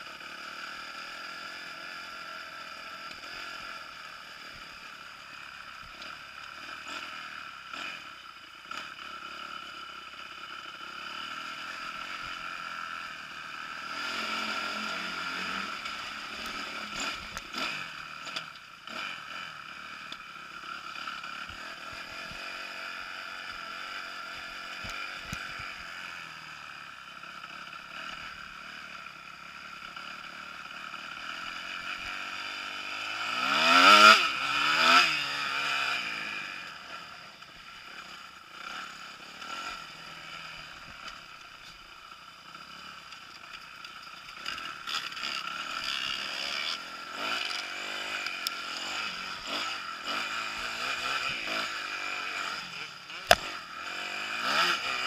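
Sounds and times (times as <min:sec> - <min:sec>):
motorbike engine revving: 0:05.4 - 0:28.9, 0:29.6 - 0:55.0.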